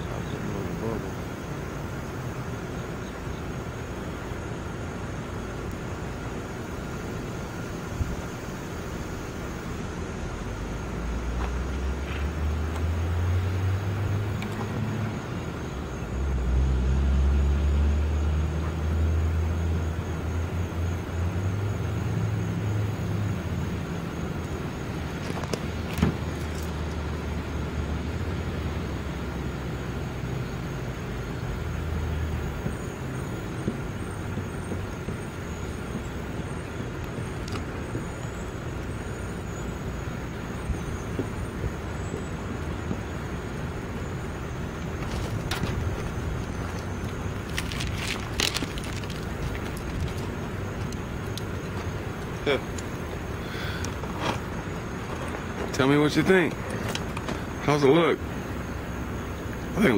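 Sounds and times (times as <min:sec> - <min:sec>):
steady hiss: 0:00.0 - 0:59.9
vehicle engine rumble: 0:00.0 - 0:59.9.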